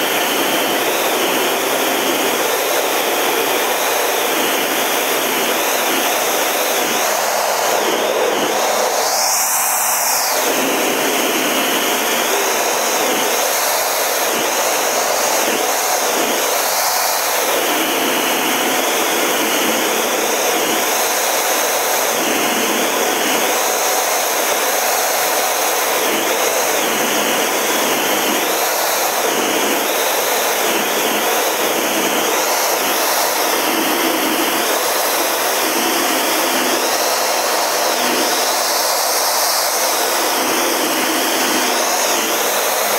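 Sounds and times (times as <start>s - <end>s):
jet engine and airflow rush: 0.0s - 42.9s.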